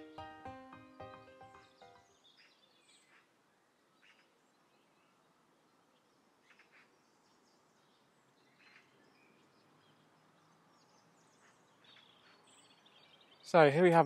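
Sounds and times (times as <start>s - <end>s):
faint outdoor background hiss: 0.0s - 14.0s
faint bird chirps: 0.9s - 13.7s.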